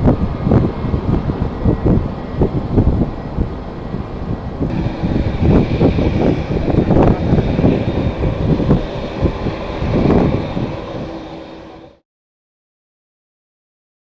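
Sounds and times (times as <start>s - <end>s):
jet engines whining: 0.0s - 12.0s
wind buffeting microphone: 0.0s - 12.0s.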